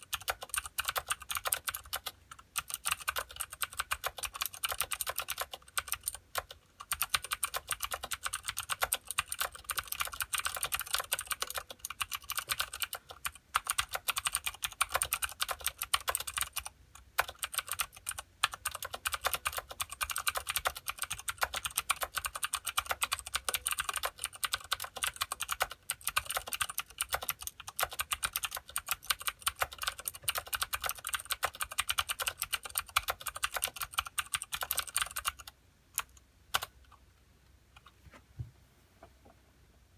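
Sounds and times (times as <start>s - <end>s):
fast typing on clicky keyboard: 0.0s - 36.8s.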